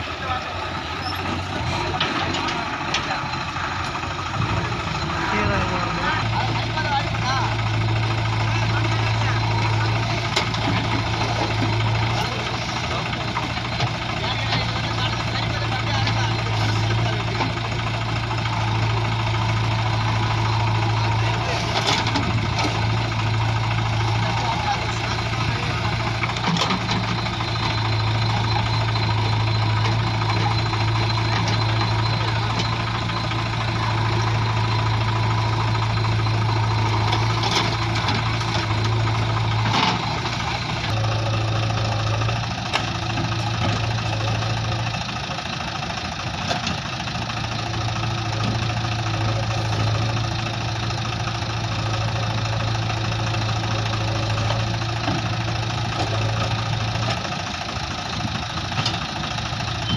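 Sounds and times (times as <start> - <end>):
diesel engine hum: 0.0 - 59.9.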